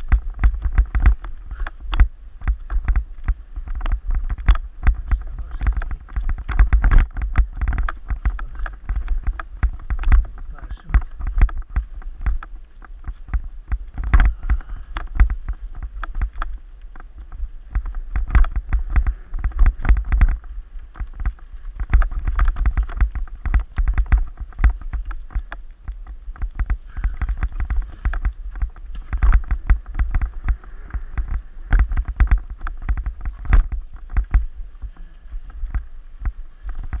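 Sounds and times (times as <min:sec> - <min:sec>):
bike knocks and rattles: 0:00.0 - 0:37.0
deep rumble: 0:00.0 - 0:37.0.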